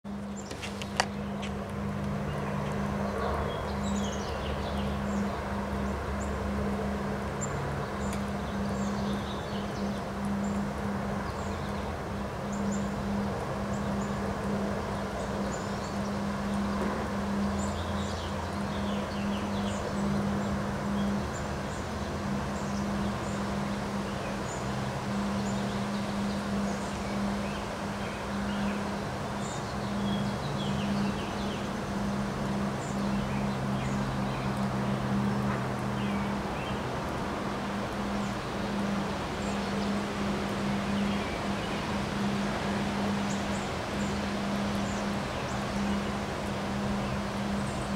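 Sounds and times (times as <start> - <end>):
wind rustling leaves: 0.0 - 47.9
small birds chirping: 0.1 - 47.9
steady low hum: 0.1 - 47.9.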